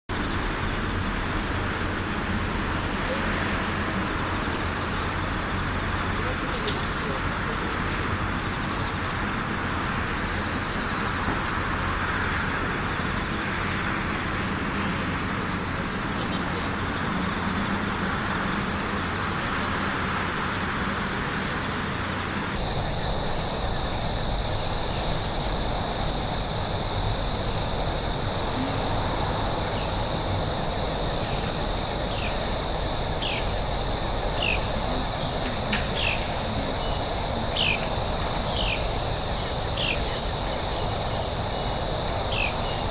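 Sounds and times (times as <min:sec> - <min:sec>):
insects droning: 0:00.1 - 0:42.9.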